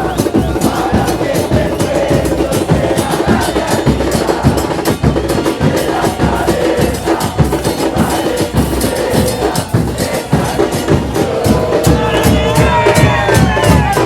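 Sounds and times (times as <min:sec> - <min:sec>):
drums beating fast rhythm: 0:00.0 - 0:14.0.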